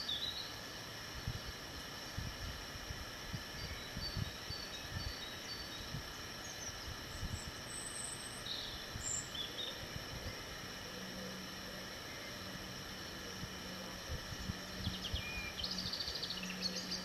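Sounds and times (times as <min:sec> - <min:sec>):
small birds chirping: 0:00.0 - 0:00.6, 0:03.4 - 0:17.0.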